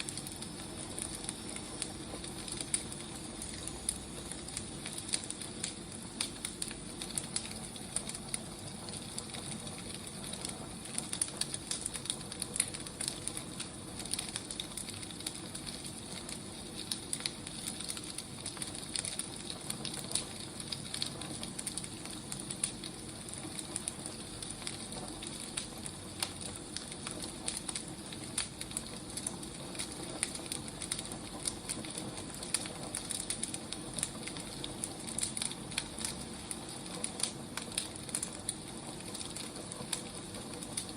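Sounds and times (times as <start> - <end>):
fire popping and snapping: 0.0 - 40.9
wood fire crackling: 0.0 - 40.9.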